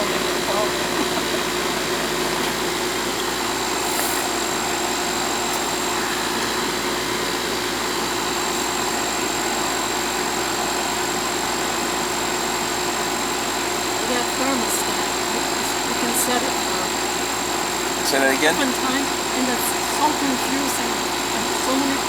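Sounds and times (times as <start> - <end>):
air conditioner unit whirring: 0.0 - 22.0.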